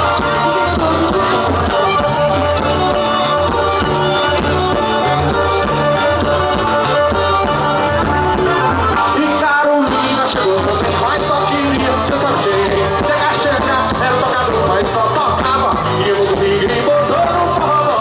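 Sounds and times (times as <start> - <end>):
accordion chords and melody: 0.0 - 18.0
bass beat: 0.0 - 18.0
percussion: 0.0 - 18.0.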